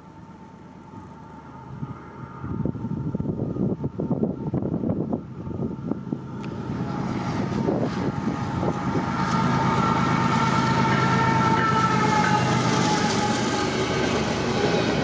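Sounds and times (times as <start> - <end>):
locomotive engine rumble: 0.0 - 15.0.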